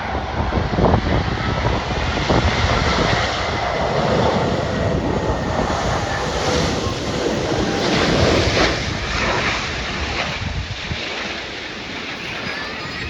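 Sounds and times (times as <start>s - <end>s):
jet engines rumbling: 0.0s - 13.0s
wind buffeting microphone: 0.0s - 13.0s.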